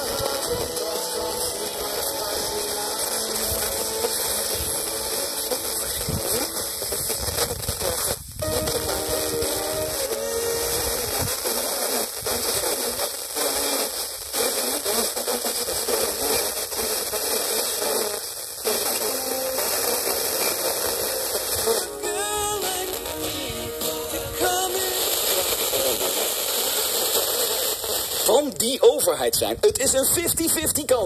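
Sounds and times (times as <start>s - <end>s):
radio static hiss: 0.0s - 31.0s
radio station music: 0.0s - 31.0s.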